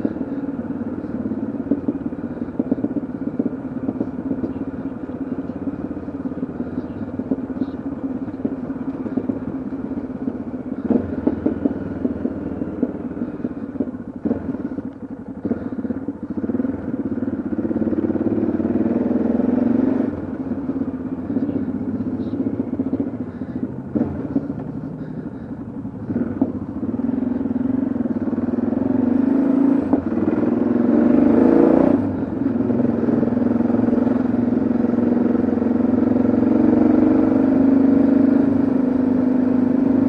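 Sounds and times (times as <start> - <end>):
motorcycle engine throbbing: 0.0 - 40.0.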